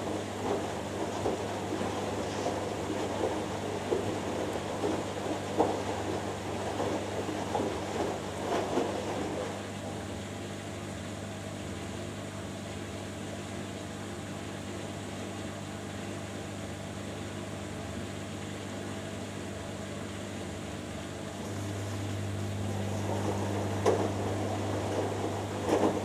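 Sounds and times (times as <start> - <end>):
washing machine motor hum: 0.0 - 26.0.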